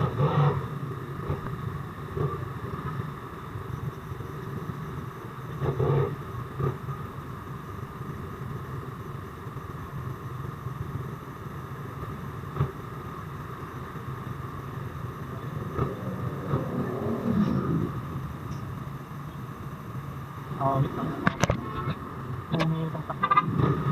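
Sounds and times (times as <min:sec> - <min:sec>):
motorcycle engine running: 0:00.0 - 0:22.5.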